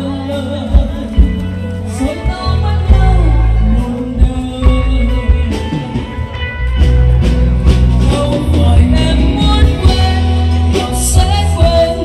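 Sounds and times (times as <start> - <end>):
person singing: 0.0 - 6.6, 7.7 - 12.0
loud music with heavy bass: 0.0 - 12.0.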